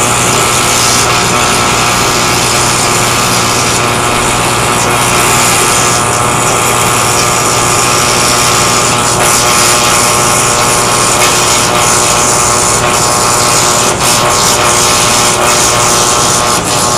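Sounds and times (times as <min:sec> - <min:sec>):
welding crackles: 0:00.0 - 0:16.9
welding hissing buzz: 0:00.0 - 0:16.9.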